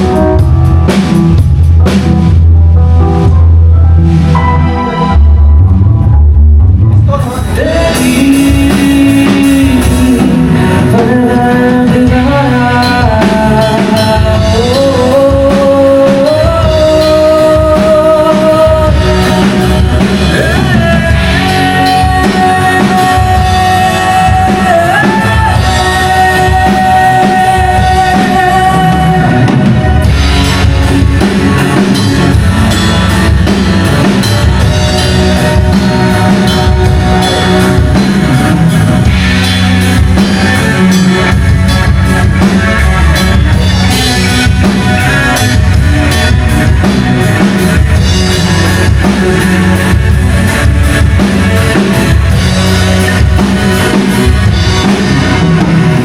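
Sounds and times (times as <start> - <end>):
drum kit: 0.0 - 56.0
guitar: 0.0 - 56.0
rock singing: 0.0 - 56.0.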